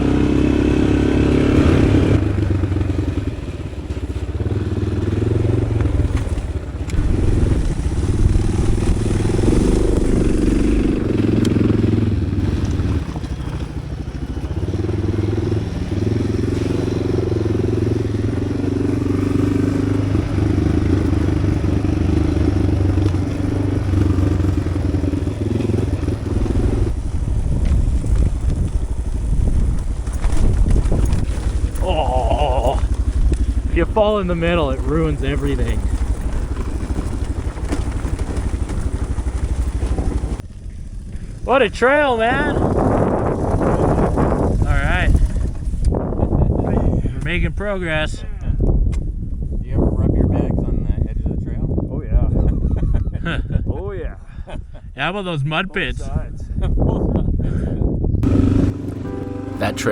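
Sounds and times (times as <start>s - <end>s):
motorcycle engine revving: 0.0s - 48.3s, 58.1s - 59.9s.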